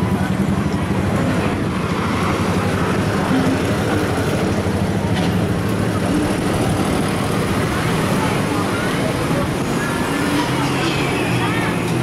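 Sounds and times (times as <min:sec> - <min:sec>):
traffic rumble: 0:00.0 - 0:12.0
voices of passers-by: 0:00.0 - 0:12.0.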